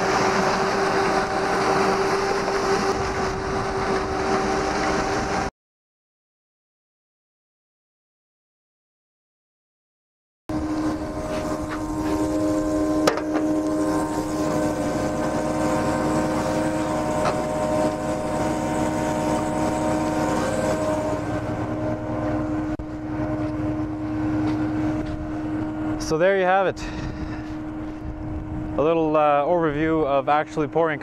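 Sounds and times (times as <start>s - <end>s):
mixer truck engine drone: 0.0s - 5.5s, 10.5s - 31.0s.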